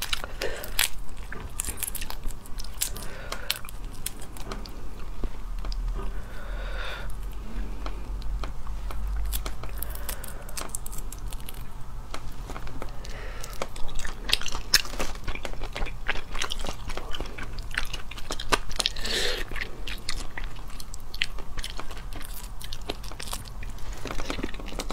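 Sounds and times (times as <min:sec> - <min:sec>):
crayfish shells cracking: 0:00.0 - 0:05.9, 0:08.2 - 0:24.9
crunching and chewing: 0:00.0 - 0:24.9.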